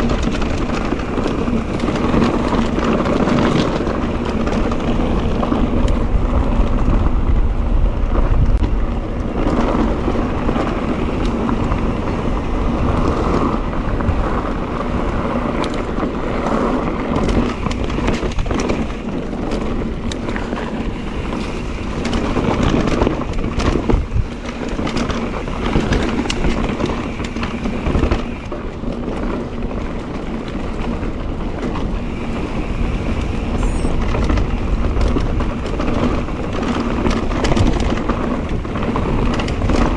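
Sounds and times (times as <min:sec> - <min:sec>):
bike rattles and knocks: 0:00.0 - 0:39.9
bike tyres rolling on trail: 0:00.0 - 0:39.9
wind on microphone: 0:00.0 - 0:39.9.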